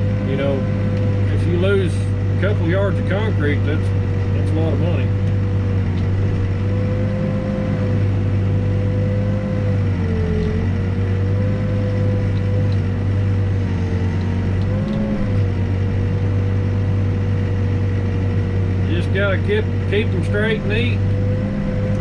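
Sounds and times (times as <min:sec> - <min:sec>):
diesel engine running: 0:00.0 - 0:22.0
high mechanical whine: 0:00.0 - 0:22.0.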